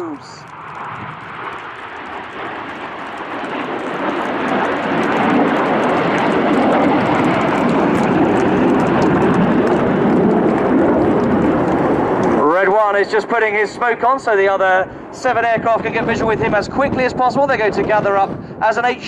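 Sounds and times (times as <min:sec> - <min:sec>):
jets flying overhead: 0:00.0 - 0:19.0.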